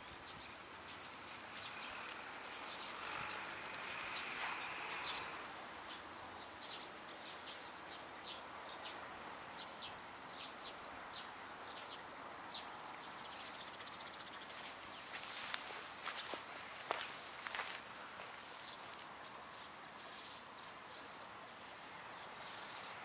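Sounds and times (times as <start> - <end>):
faint outdoor hiss: 0.0 - 23.0
small birds chirping: 0.0 - 23.0.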